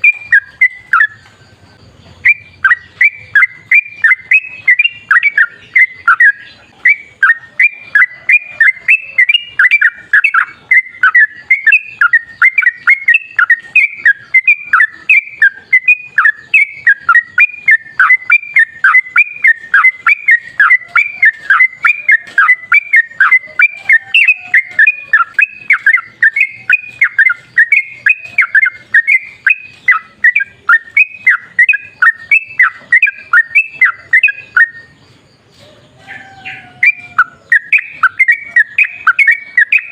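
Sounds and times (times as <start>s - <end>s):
bird singing quick repeated notes: 0.0s - 35.4s, 36.8s - 39.9s.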